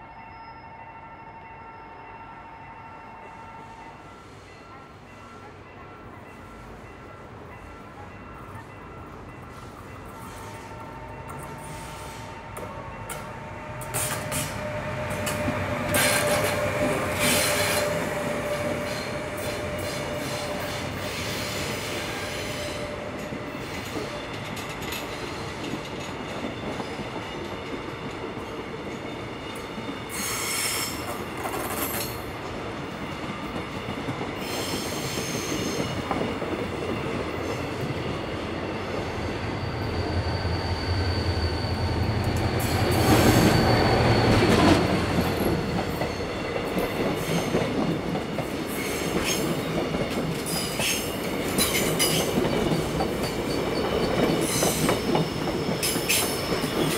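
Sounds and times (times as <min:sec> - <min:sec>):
train wheels squealing: 0:00.0 - 0:02.2, 0:09.4 - 0:56.9
train running on rails: 0:00.0 - 0:56.9.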